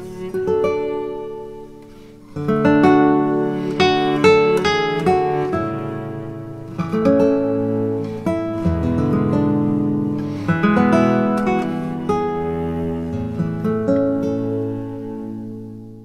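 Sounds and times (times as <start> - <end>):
acoustic guitar plucking melody: 0.0 - 16.0.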